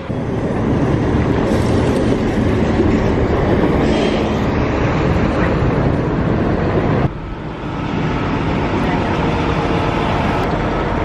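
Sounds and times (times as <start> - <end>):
street rumble: 0.0 - 11.0
tram clattering on tracks: 0.0 - 11.0.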